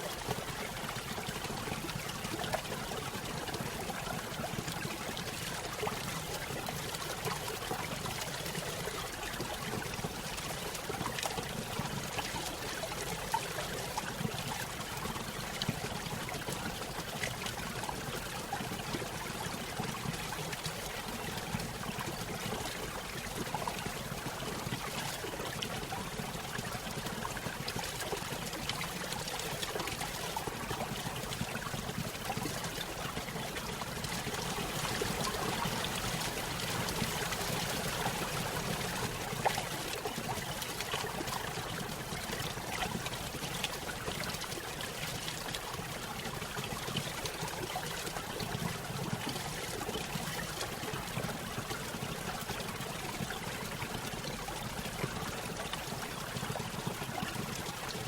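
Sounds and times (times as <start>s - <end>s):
stream over small waterfall: 0.0s - 58.0s.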